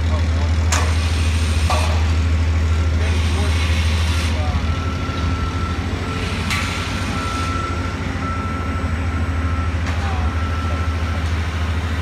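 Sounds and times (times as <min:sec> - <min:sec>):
diesel machinery idling: 0:00.0 - 0:12.0.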